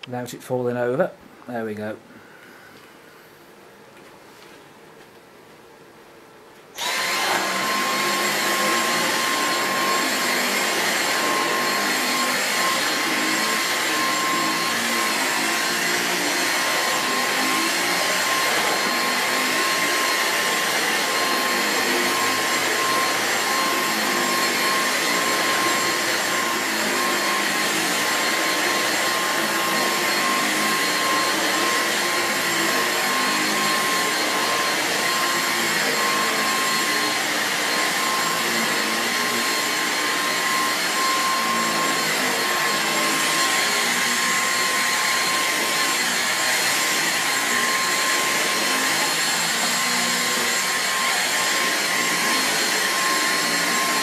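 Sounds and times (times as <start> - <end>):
vacuum cleaner running over carpet: 6.8 - 54.0.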